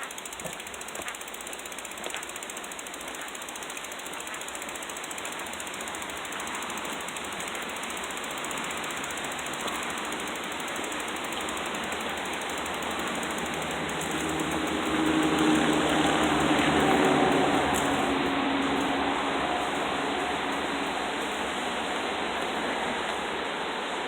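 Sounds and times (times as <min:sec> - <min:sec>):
bicycle freewheel ticking: 0:00.0 - 0:23.5.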